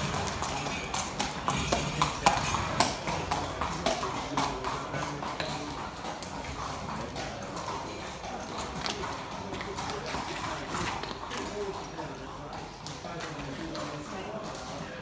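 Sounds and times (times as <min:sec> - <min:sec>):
hooves clip-clopping on pavement: 0:00.0 - 0:15.0.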